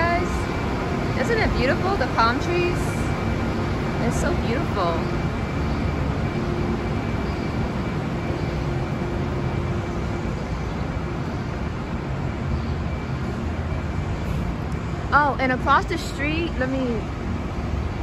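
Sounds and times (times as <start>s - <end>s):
low hum: 0.0s - 18.0s
vehicle engines running: 0.0s - 18.0s.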